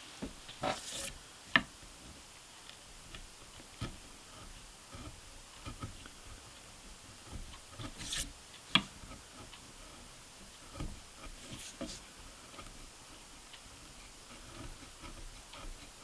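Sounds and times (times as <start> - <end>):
chisel scraping wood: 0.2 - 16.0.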